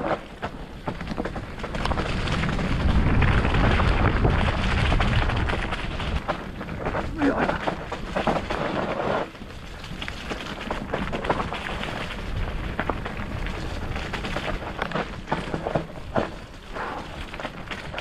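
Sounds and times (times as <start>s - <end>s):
bike clicks and knocks: 0.0s - 18.0s
tyres crackling on dirt and stones: 0.0s - 18.0s.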